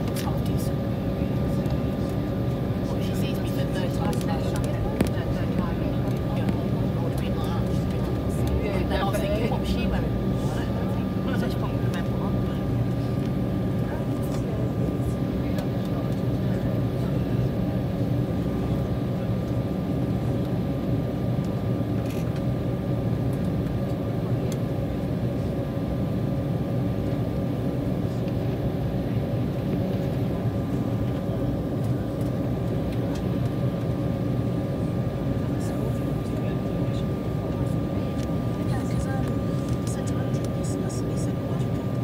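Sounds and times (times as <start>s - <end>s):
jet engines drone: 0.0s - 42.0s
thin steady whine: 0.0s - 42.0s.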